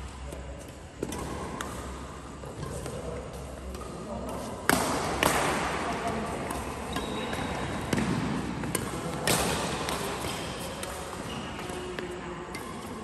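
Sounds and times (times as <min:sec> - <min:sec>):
rackets hitting shuttlecock: 0:00.7 - 0:13.0.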